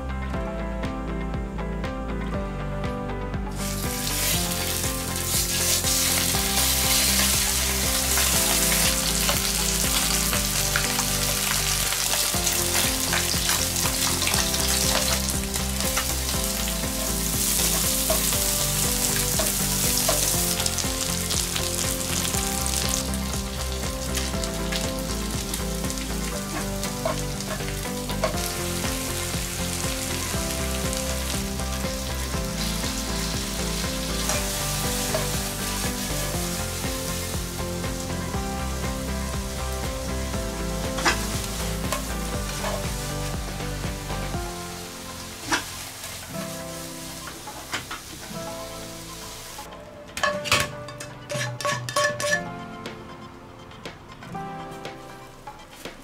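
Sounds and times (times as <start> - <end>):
chicken sizzling in frying pan: 3.6 - 49.7.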